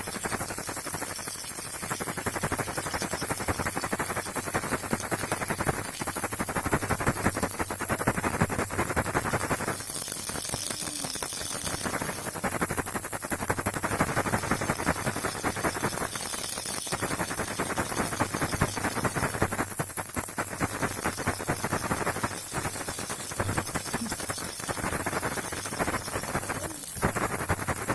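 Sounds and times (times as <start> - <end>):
baby rattle clattering: 0.0 - 12.8, 13.8 - 19.5, 20.6 - 27.9
steady low hum: 0.0 - 27.9.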